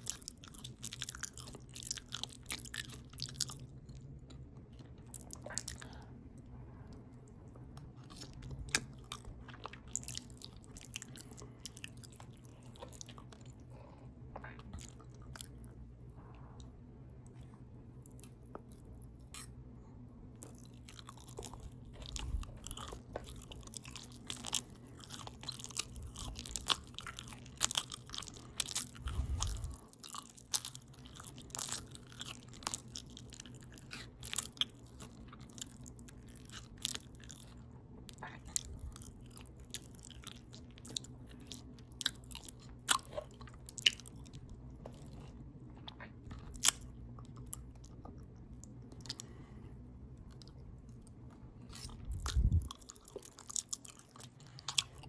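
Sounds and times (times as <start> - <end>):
open-mouth chewing: 0.0 - 6.2, 6.9 - 15.8, 20.4 - 55.0
steady low hum: 0.0 - 55.0.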